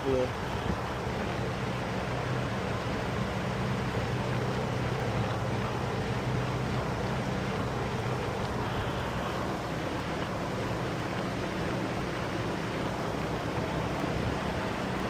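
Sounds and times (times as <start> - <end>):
constant rushing noise: 0.0 - 15.0.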